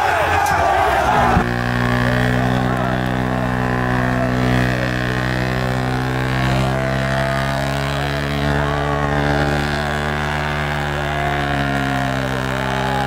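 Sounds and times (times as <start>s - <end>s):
faint crowd shouts: 0.0s - 13.0s
motor running steadily: 0.0s - 13.0s.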